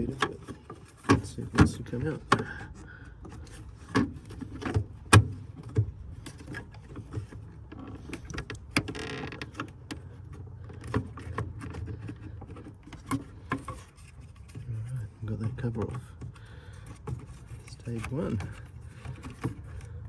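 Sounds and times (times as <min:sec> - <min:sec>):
plastic scraping: 0:00.0 - 0:20.0.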